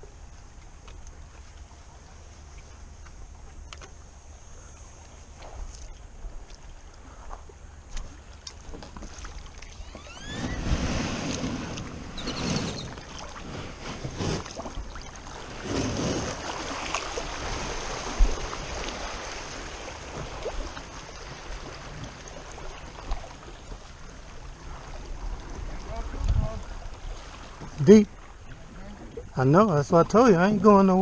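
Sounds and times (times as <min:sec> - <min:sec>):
water sloshing around kayak: 0:00.0 - 0:30.9.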